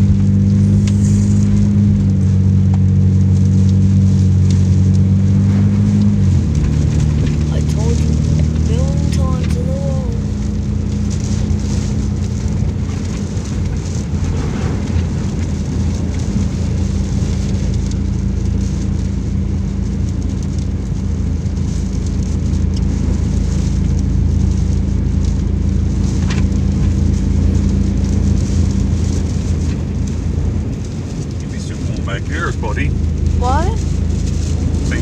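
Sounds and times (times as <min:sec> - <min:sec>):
heavy rain falling: 0:00.0 - 0:35.0
low hum: 0:00.0 - 0:35.0.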